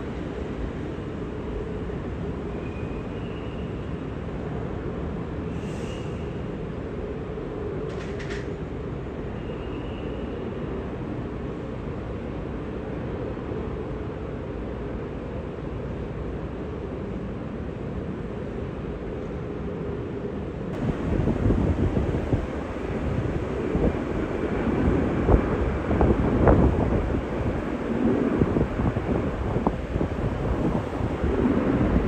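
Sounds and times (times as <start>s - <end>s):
jet engines rumbling: 0.0s - 9.4s, 10.2s - 32.0s.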